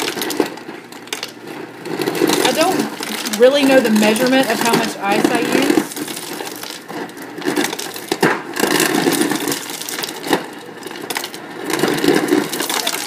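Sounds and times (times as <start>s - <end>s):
crushed ice clattering into plastic cup: 0.0s - 13.0s
ice crusher grinding: 0.0s - 13.0s.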